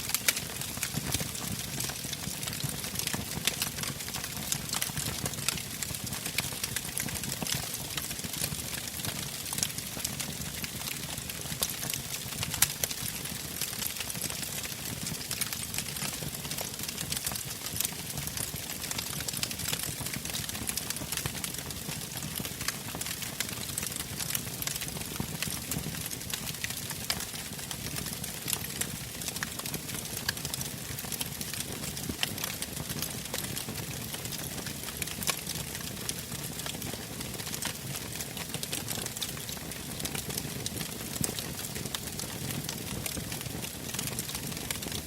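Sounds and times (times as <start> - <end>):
fire popping: 0.1 - 44.9
wood fire crackling: 0.1 - 45.0.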